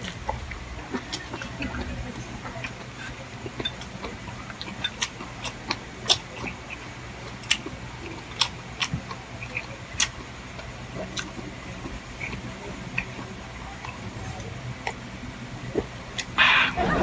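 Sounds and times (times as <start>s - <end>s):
wet chewing smacks: 0.0s - 16.6s
steady low hum: 0.0s - 17.0s.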